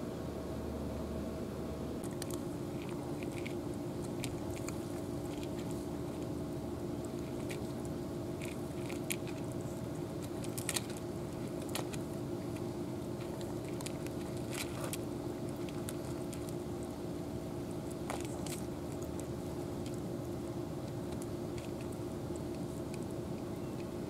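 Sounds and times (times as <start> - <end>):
steady low hum: 0.0 - 24.0
cats crunching and chewing food: 2.0 - 24.0.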